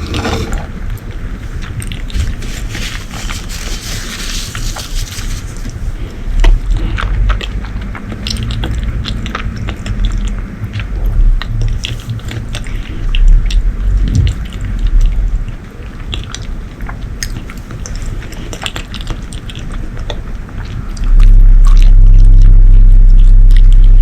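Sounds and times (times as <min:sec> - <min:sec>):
chewing and biting food: 0:00.0 - 0:22.5.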